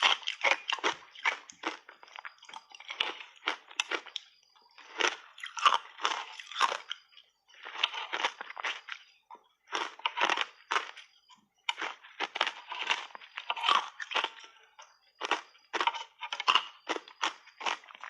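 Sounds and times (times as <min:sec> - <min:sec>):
ice cubes crunched by chewing: 0:00.0 - 0:18.0.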